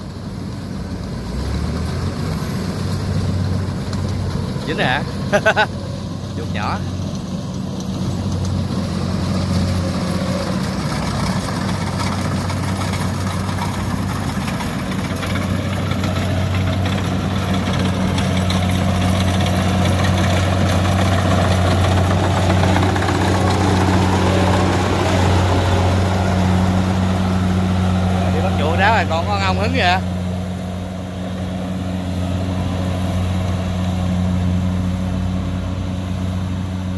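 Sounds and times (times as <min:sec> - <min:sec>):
engine hum: 0:00.0 - 0:36.9
machinery rushing noise: 0:02.7 - 0:05.7, 0:08.0 - 0:36.0.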